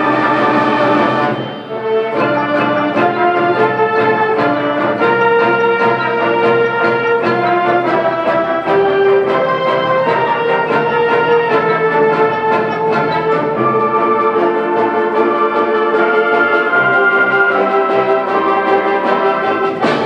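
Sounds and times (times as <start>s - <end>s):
percussion strokes: 0.0s - 20.0s
symphonic band playing: 0.0s - 20.0s.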